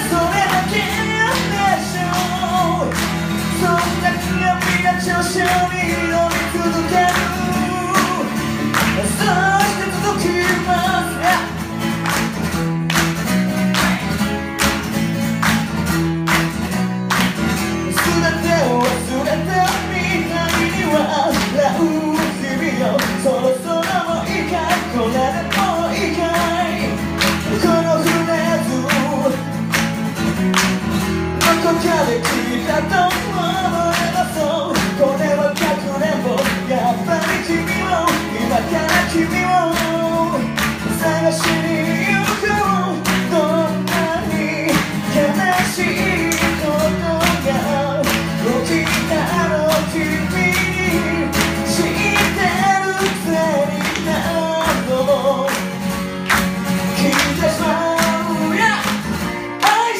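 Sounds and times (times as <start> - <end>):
man singing: 0.0 - 12.2, 17.6 - 29.8, 31.2 - 59.9
acoustic guitar strumming: 0.0 - 59.9.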